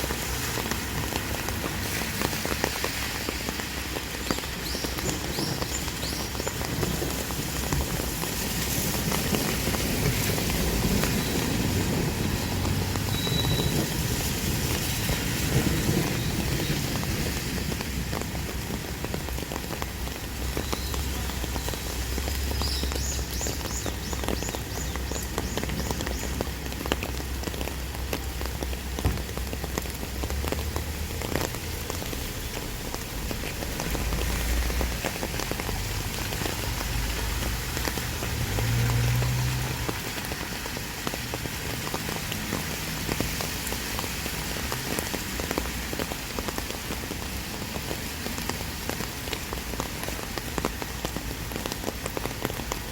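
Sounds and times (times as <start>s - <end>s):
heavy rain pelting down: 0.0s - 52.9s.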